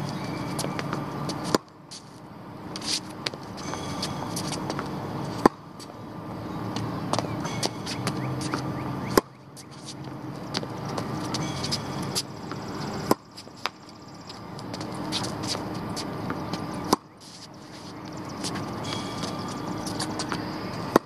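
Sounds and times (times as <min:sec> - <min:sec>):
tennis racket hitting ball: 0:00.0 - 0:02.0, 0:02.7 - 0:05.6, 0:06.8 - 0:21.0
steady background hum: 0:00.0 - 0:21.0.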